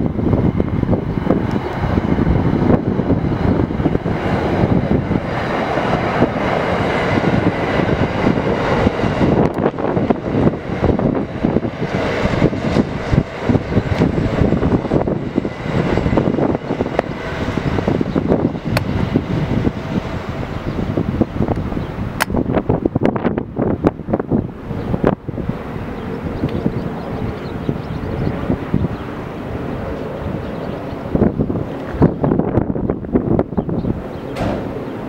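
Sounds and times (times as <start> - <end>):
diesel locomotive engine drone: 0.0 - 35.0
train rumbling past: 0.0 - 35.0.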